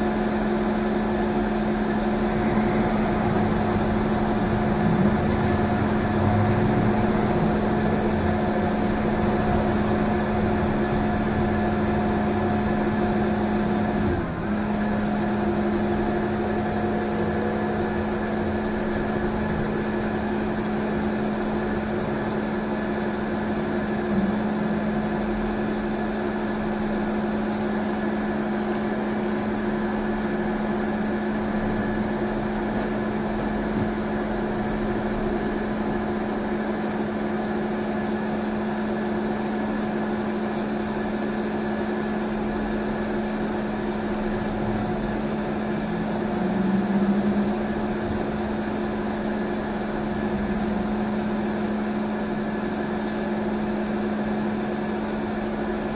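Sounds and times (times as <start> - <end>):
trolleybus cabin hum and rumble: 0.0 - 55.9.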